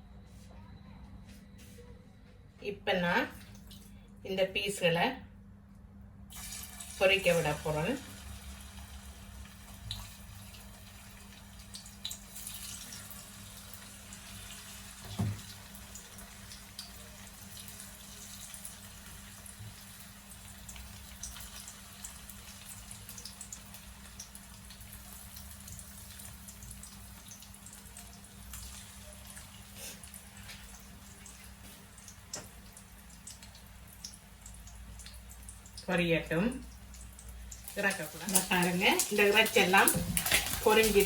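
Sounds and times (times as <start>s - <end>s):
chicken sizzling in hot oil: 6.3s - 35.9s, 36.8s - 41.0s.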